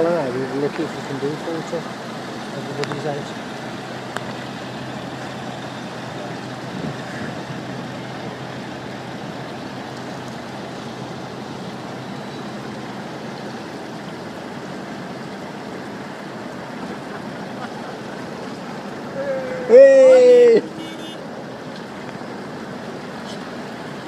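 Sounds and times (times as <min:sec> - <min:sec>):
vehicle engine and tyre noise: 0:00.0 - 0:24.0.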